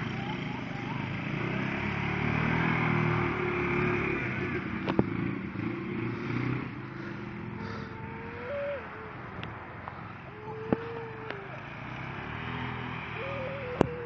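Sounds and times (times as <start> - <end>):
quad bike engines running: 0.0 - 14.0.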